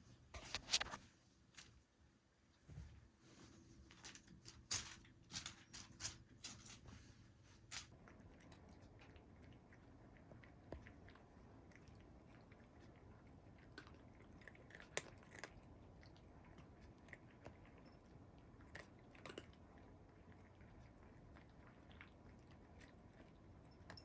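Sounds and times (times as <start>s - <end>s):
faint chewing and crunching: 0.4s - 24.0s.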